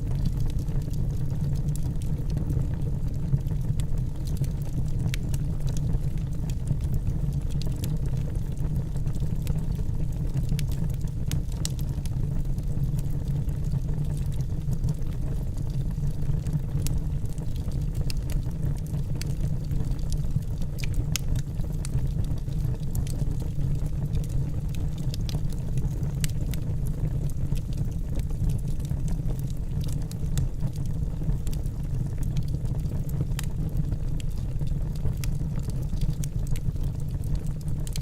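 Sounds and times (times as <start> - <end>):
flames rumbling: 0.0 - 38.0
logs crackling and popping: 0.1 - 38.0.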